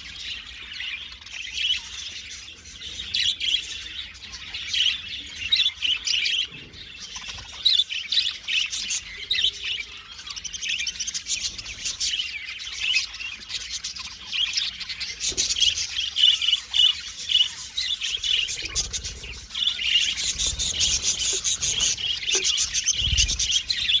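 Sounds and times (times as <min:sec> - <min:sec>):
budgerigars chirping: 0:00.1 - 0:24.0.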